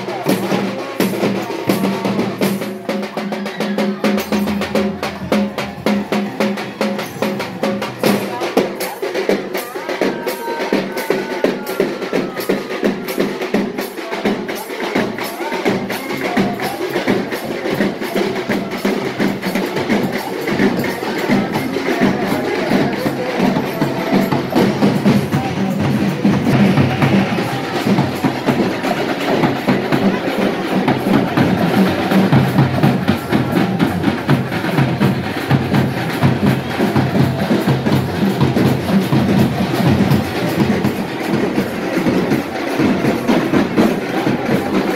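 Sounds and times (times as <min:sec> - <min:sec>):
drum ensemble fast rhythm: 0:00.0 - 0:44.9.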